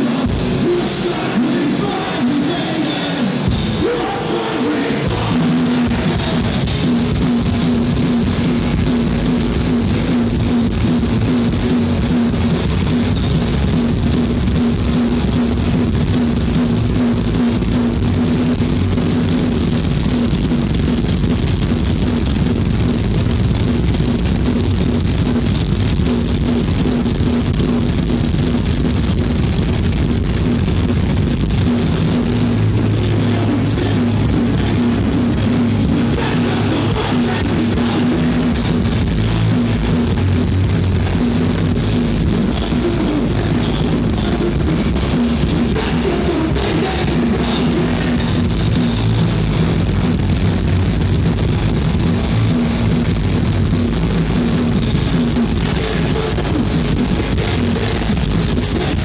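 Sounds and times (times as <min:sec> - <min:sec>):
distorted electric guitars: 0:00.0 - 0:59.0
pounding drum kit: 0:00.0 - 0:59.0.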